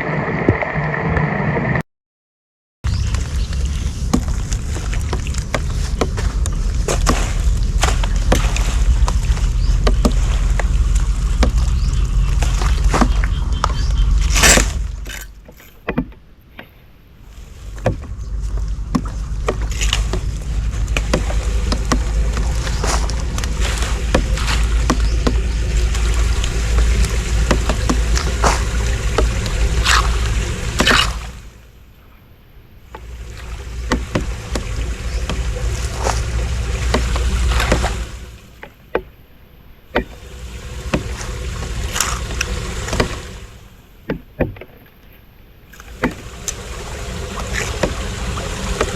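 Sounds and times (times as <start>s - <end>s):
knocks and scrapes: 2.9s - 31.5s, 32.9s - 39.1s, 39.9s - 48.9s
water sloshing and splashing: 2.9s - 48.9s.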